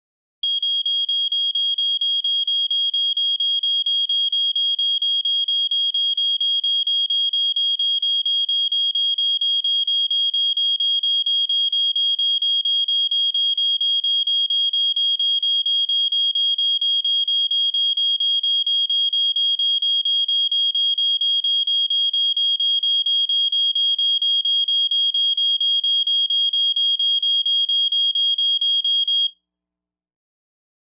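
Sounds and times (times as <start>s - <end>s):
smoke detector alarm beeping: 0.4s - 29.3s.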